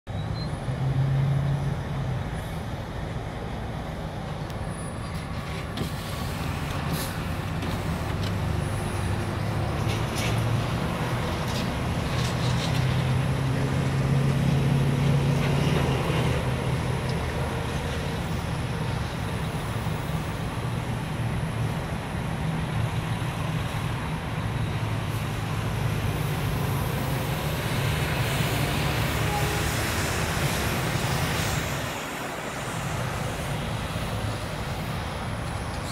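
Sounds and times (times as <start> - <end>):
road traffic noise: 0.0 - 35.9
coach engine drone: 0.1 - 35.9.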